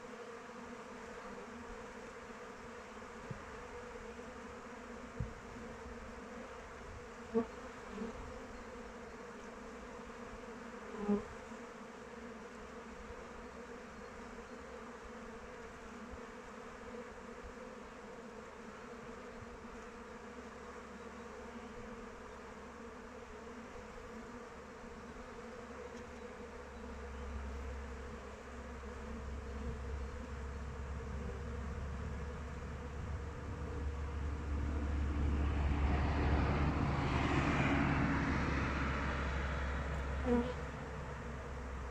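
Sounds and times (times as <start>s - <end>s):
bees humming: 0.0s - 36.2s, 36.9s - 41.9s
bee flying close: 0.0s - 41.9s.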